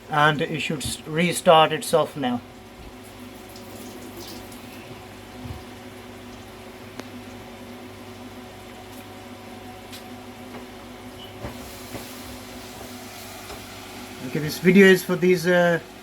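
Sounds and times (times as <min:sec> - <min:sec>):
gas boiler humming: 0:00.0 - 0:16.0.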